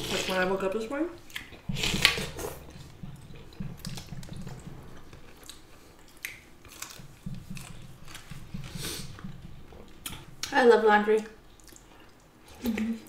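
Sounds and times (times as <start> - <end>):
people chewing: 1.2 - 10.6, 11.2 - 13.0.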